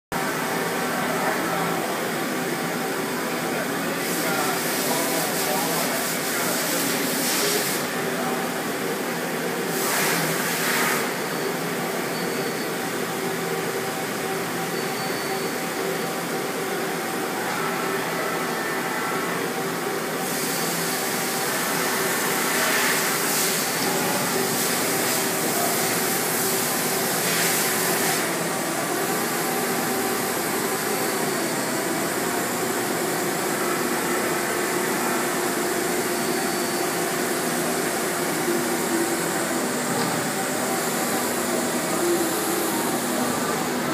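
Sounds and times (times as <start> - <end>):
machine hum and hiss: 0.2 - 43.9.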